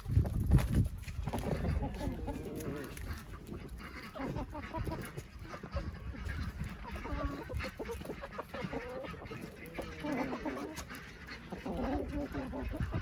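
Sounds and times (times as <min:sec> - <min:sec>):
ducks and chickens calling: 0:00.0 - 0:13.0.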